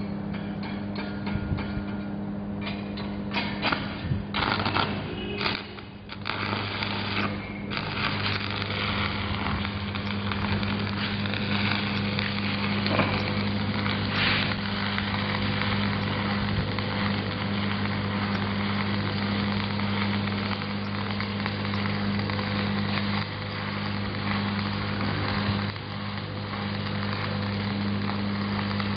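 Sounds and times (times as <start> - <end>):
welding machine hum: 0.0 - 28.9
welding arc crackling: 2.6 - 28.9.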